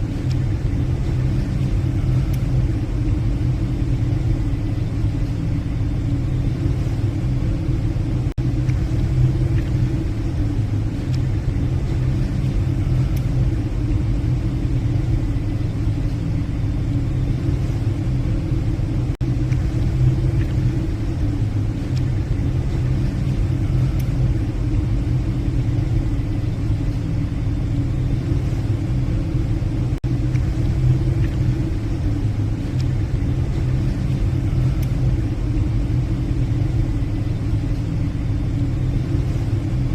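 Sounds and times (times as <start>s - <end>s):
ship engines droning: 0.0s - 39.9s.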